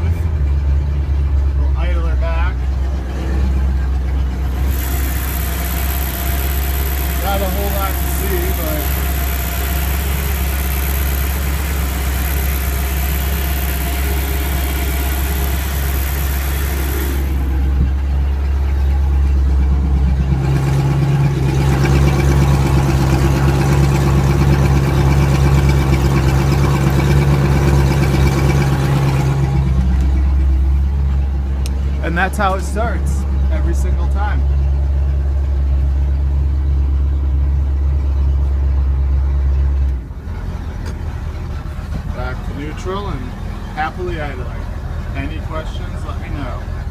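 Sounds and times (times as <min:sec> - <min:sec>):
boat engine idling: 0:00.0 - 0:46.9.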